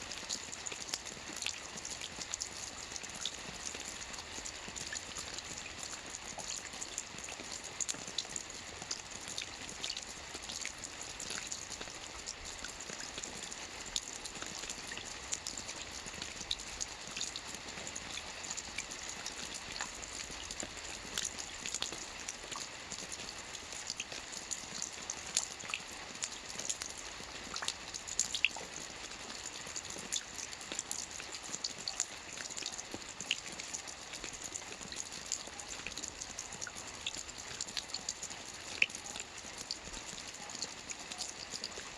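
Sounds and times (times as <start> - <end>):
rain falling on a lake: 0.0 - 41.9.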